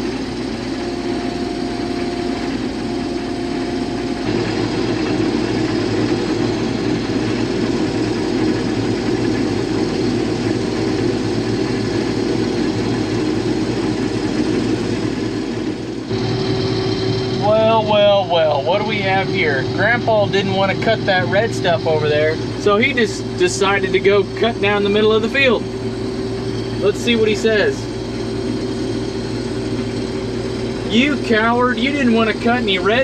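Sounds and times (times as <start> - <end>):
combine harvester running: 0.0 - 33.0.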